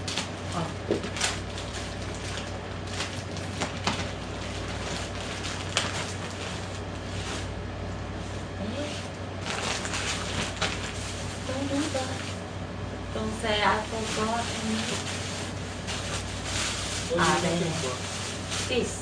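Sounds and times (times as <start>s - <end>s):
plastic bags rustling: 0.0s - 12.5s, 13.2s - 19.0s
steady low hum: 0.0s - 19.0s.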